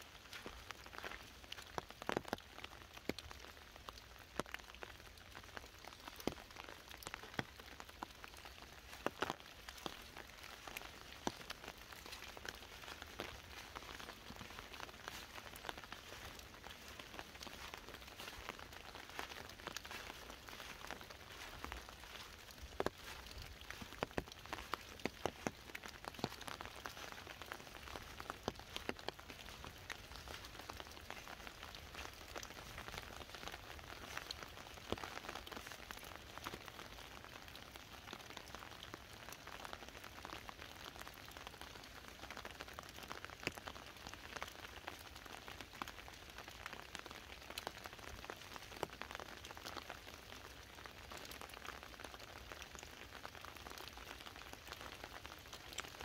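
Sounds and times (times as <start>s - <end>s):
raindrops ticking on umbrella: 0.0s - 56.0s
steady rain falling: 0.0s - 56.0s.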